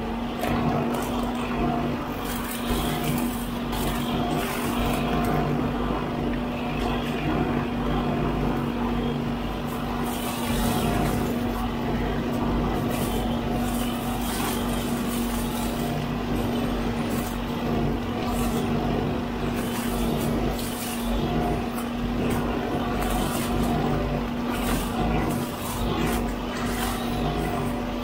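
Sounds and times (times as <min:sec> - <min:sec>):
brush cutter and diesel engine hum: 0:00.0 - 0:28.0.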